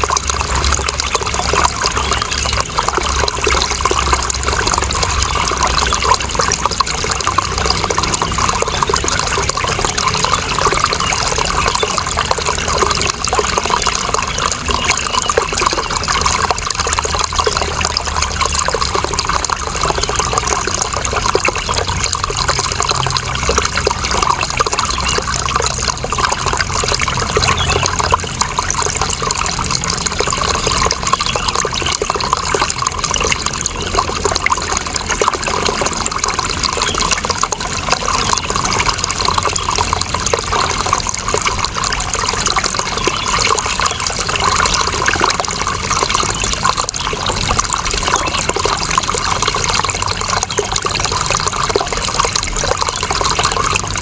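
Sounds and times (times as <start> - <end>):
water flowing and splashing: 0.0 - 54.0.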